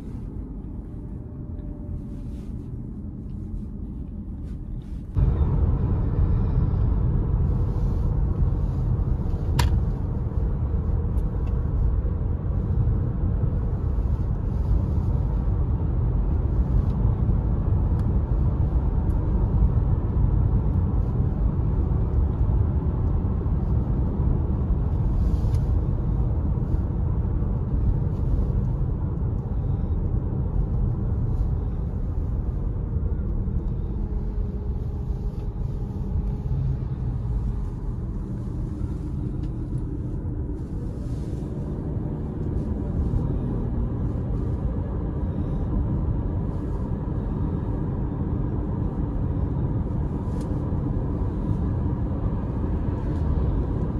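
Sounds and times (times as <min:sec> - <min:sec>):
car cabin road and engine rumble: 0:00.0 - 0:53.9.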